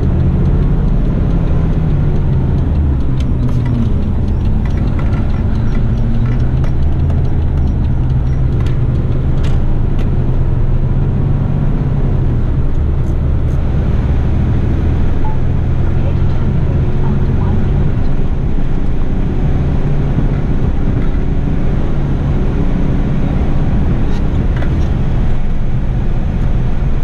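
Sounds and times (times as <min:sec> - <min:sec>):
truck diesel engine drone: 0:00.0 - 0:27.0.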